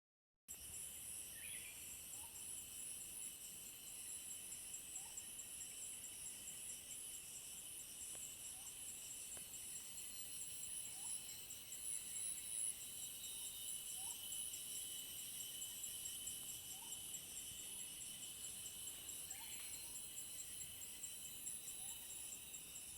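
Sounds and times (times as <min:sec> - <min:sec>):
insects trilling: 0:00.5 - 0:22.9.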